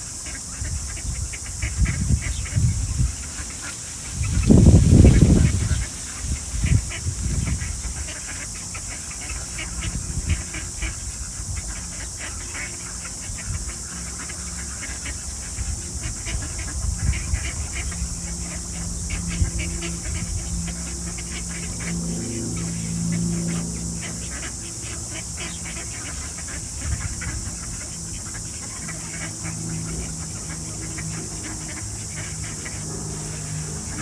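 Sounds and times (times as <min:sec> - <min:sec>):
ducks and geese calling: 0:00.0 - 0:34.0
high-pitched hiss: 0:00.0 - 0:34.0
wind rumbling on microphone: 0:00.0 - 0:34.0.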